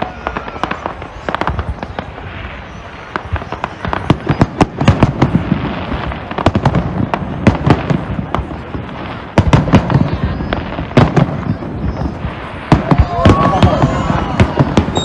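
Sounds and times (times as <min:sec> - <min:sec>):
fireworks bangs and crackles: 0:00.0 - 0:15.0
fireworks rumble: 0:00.0 - 0:15.0.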